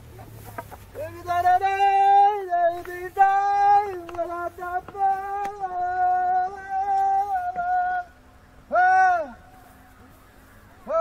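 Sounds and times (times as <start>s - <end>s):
person singing unaccompanied chant: 0.2s - 11.0s.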